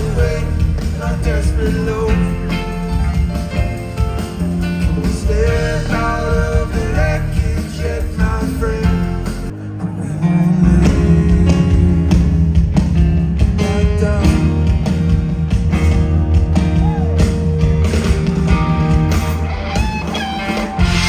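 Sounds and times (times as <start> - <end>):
bass guitar: 0.0 - 21.0
drums: 0.0 - 21.0
electric guitar: 0.0 - 21.0.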